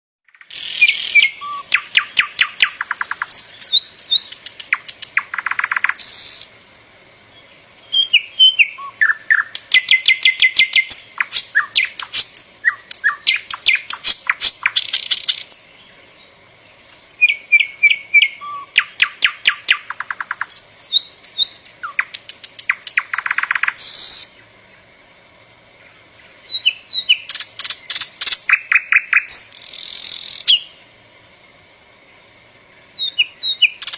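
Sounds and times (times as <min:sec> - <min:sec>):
mockingbird singing: 0:00.3 - 0:06.5, 0:07.3 - 0:24.9, 0:25.8 - 0:30.8, 0:32.8 - 0:33.9.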